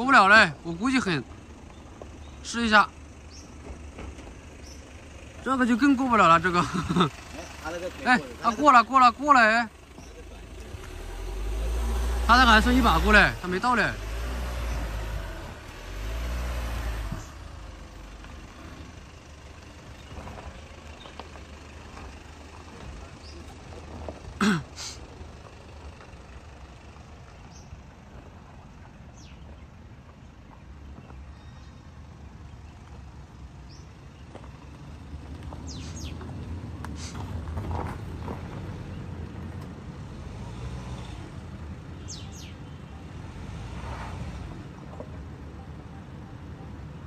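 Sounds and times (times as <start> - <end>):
engine rumbling: 0.0 - 47.0.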